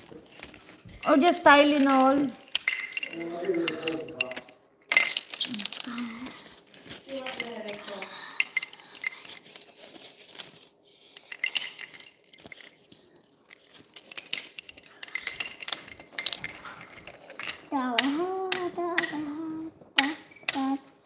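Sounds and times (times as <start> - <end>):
plastic toys clicking and clinking: 0.0 - 21.0.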